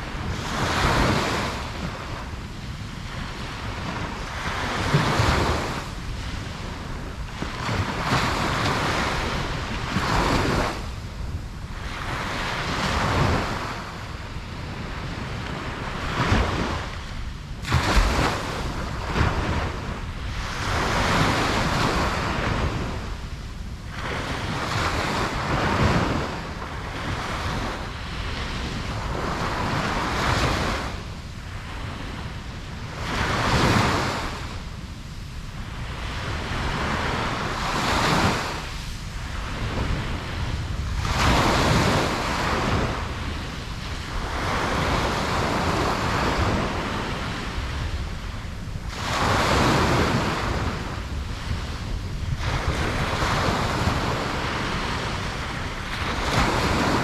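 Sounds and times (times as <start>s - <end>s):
ocean waves breaking on beach: 0.0s - 57.0s
wind on microphone: 0.0s - 57.0s.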